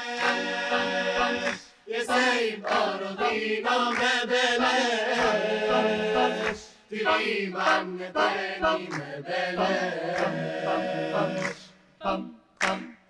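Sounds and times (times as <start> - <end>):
choir singing in harmony: 0.0 - 12.9.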